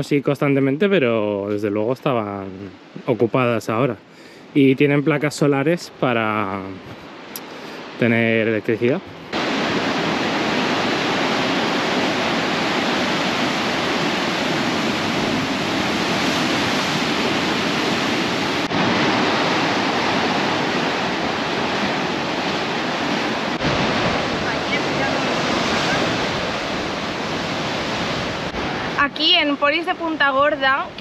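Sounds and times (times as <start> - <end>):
ocean surf breaking on rocks: 0.0 - 31.0.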